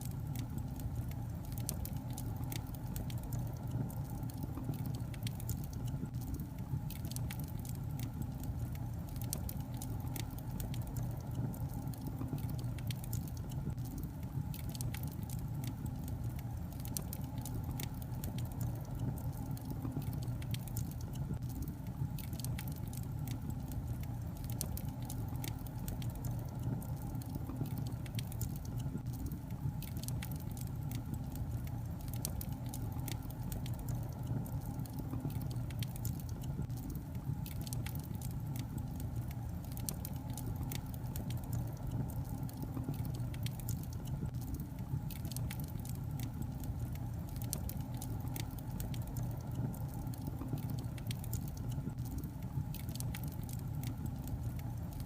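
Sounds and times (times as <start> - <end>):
fire crackling and popping: 0.0 - 55.0
flames rumbling in a fireplace: 0.0 - 55.0.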